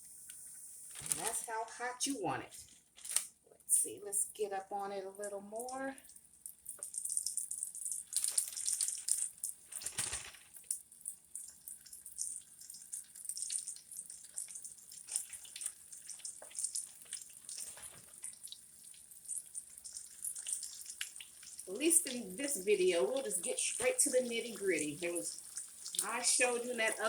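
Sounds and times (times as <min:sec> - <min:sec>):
chicken sizzling in hot oil: 0:00.0 - 0:01.6, 0:05.7 - 0:27.0.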